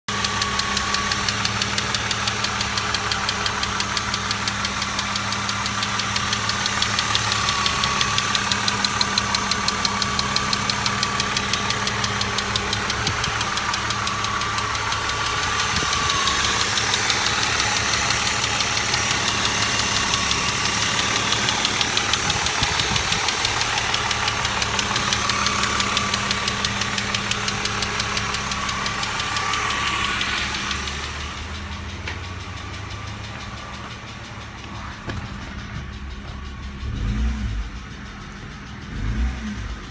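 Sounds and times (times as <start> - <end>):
car engine idling: 0.0 - 39.9
rapid engine ticking: 0.0 - 39.9.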